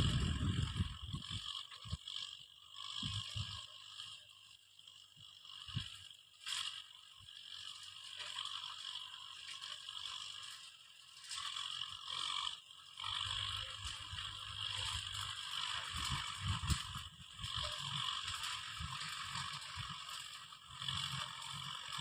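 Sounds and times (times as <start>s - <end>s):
low engine rumble: 0.0s - 22.0s
tractor plough clatter and scraping: 0.0s - 22.0s.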